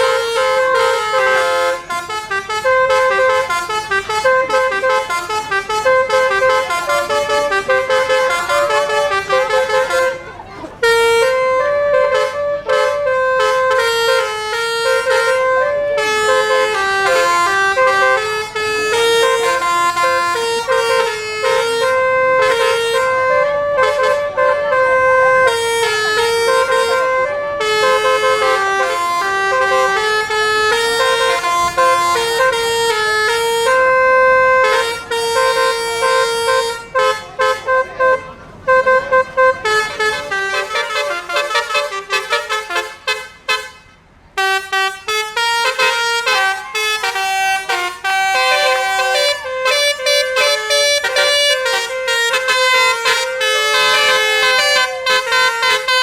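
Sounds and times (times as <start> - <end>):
bus musical horn melody: 0.0 - 56.0.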